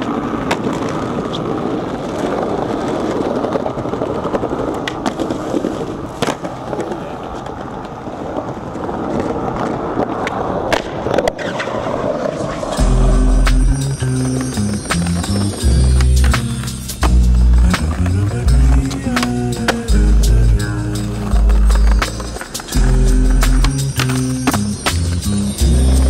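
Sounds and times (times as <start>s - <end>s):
skateboard clacks: 0.0s - 26.0s
skateboard wheels rolling on pavement: 0.0s - 26.0s.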